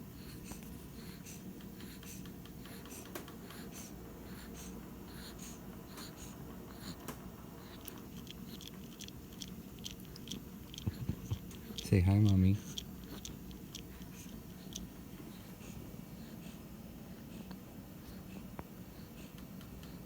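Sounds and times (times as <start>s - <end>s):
low room hum: 0.0s - 20.0s
pet breathing quickly: 0.0s - 20.0s.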